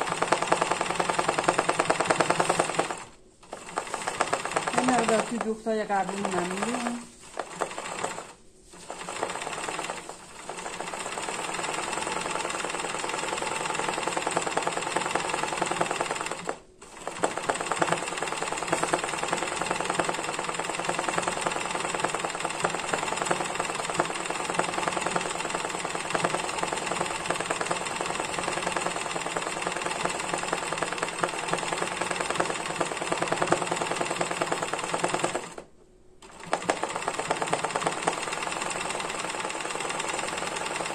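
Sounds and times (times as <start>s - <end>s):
sewing machine stitching: 0.0s - 40.9s.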